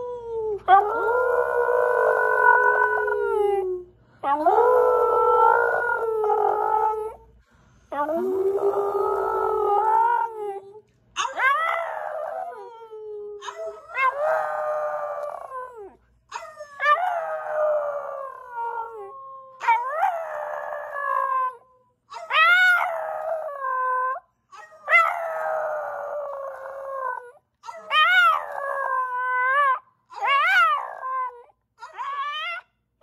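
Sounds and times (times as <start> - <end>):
dog howling: 0.0 - 7.2, 11.2 - 21.6, 22.2 - 32.6.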